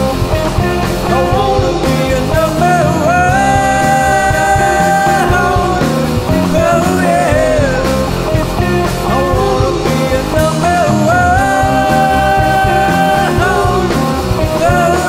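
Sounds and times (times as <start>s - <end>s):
bending lead guitar melody: 0.0s - 15.0s
rock band playing: 0.0s - 15.0s.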